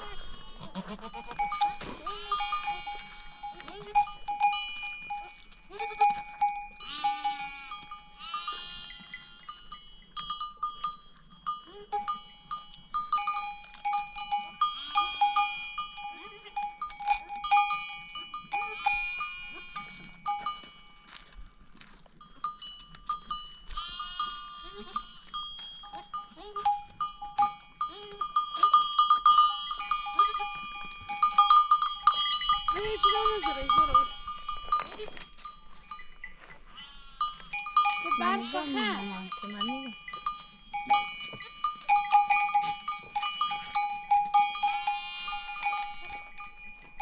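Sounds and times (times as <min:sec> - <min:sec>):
animal bells clanking: 0:00.0 - 0:47.0.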